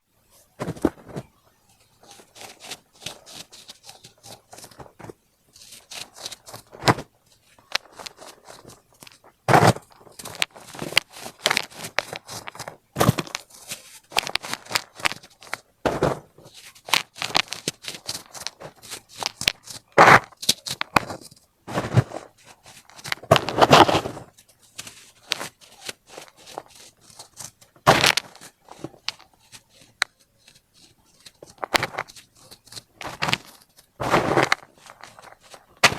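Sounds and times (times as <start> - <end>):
baking soda crunching: 2.0 - 35.9.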